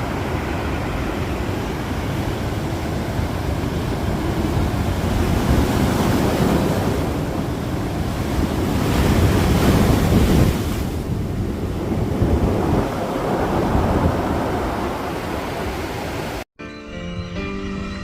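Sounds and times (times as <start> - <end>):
surf pounding on beach: 0.0 - 16.4
wind buffeting microphone: 0.0 - 16.4.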